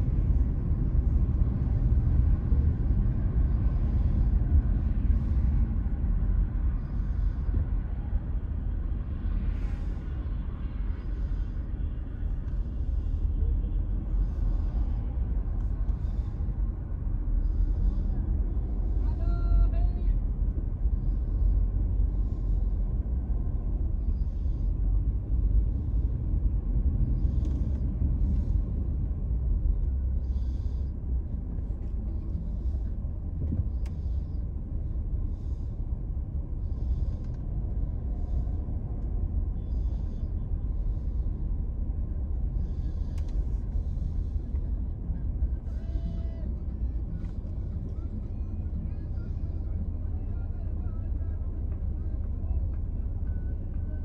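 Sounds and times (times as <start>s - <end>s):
car engine rumble: 0.0s - 54.0s
road noise inside car: 0.0s - 54.0s.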